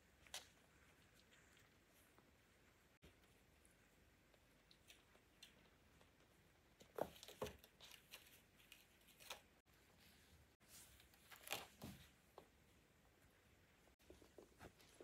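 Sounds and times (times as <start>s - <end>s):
kittens scuffling: 0.0s - 15.0s.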